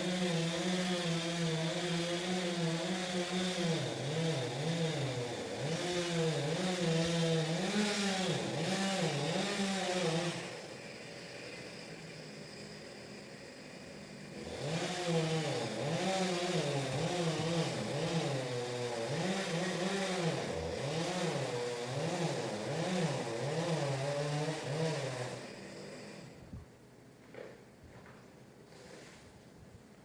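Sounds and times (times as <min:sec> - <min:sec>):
chainsaw engine revving: 0:00.0 - 0:26.5, 0:28.6 - 0:29.3.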